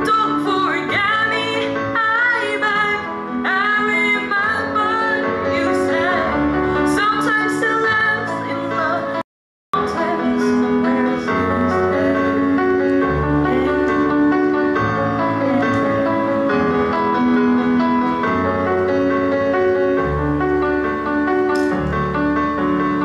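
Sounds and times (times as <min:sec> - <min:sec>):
piano instrumental: 0:00.0 - 0:23.0.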